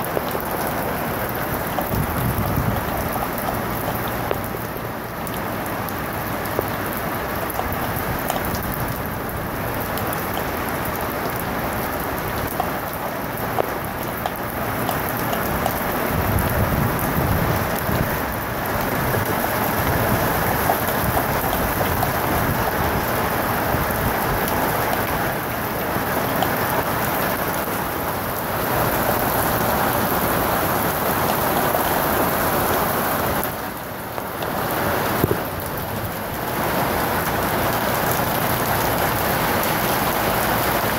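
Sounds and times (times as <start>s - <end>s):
heavy rain and hail: 0.0s - 40.9s.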